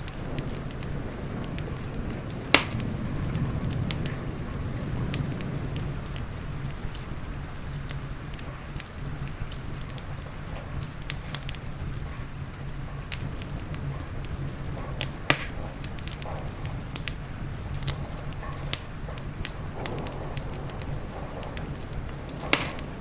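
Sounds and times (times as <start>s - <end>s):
low rumble and hiss of fire: 0.0s - 23.0s
wood fire crackling: 0.0s - 23.0s.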